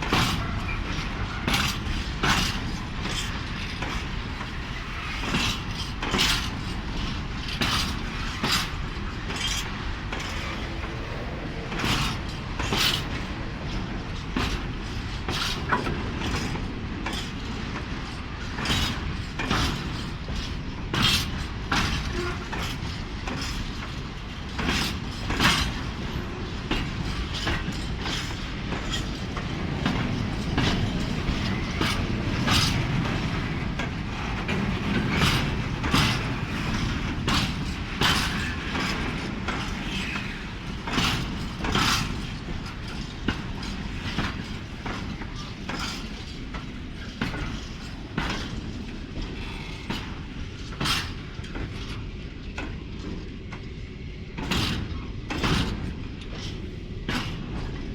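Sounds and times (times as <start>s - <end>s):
freight wagons rumbling: 0.0s - 57.9s.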